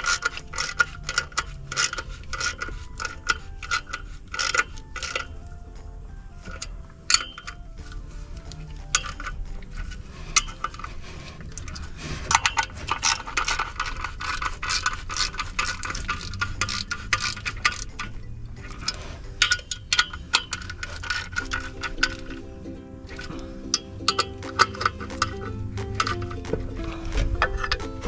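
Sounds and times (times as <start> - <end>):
ratchet wrench clicking: 0.0 - 5.4, 6.4 - 22.4, 23.1 - 28.0
metal clinks: 0.0 - 28.0.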